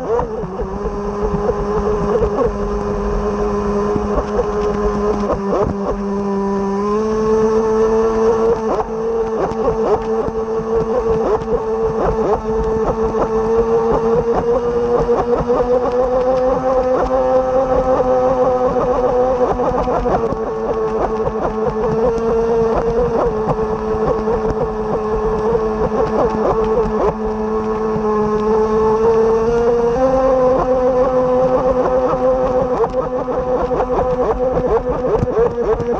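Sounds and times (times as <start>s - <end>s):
electric motor high whine: 0.0s - 35.9s.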